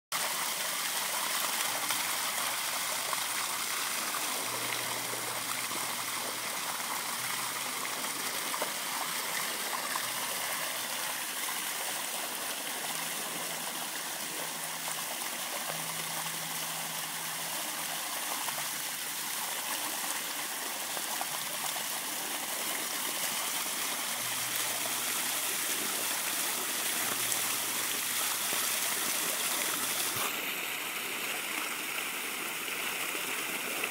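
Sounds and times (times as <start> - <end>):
water gushing onto pavement: 0.2 - 16.1, 17.0 - 33.9.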